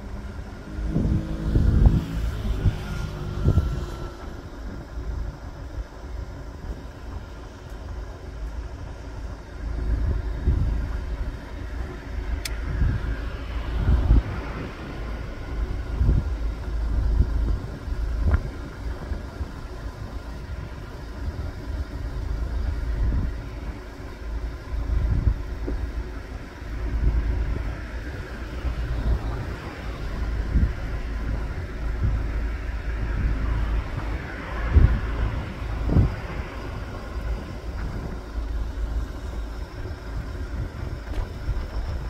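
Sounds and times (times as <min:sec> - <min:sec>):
cars passing: 0:00.0 - 0:42.0.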